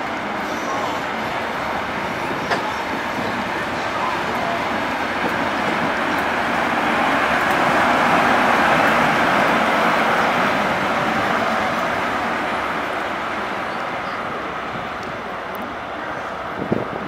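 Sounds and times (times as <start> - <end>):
diesel train engine: 0.0 - 17.0
train wheels running: 0.0 - 17.0.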